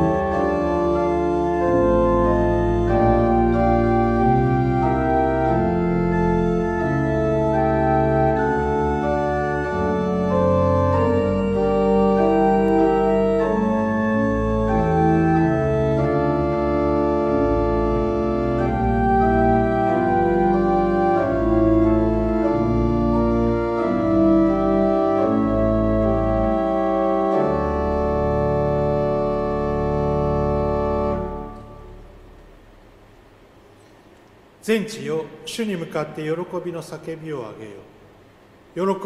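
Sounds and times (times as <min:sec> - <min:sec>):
pipe organ playing a hymn: 0:00.0 - 0:32.6.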